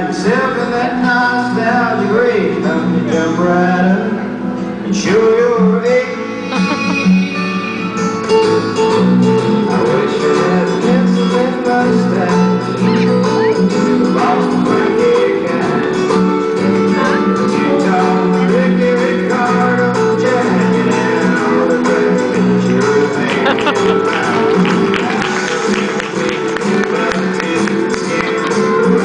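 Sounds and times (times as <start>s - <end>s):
song with singing and guitar: 0.0s - 29.0s.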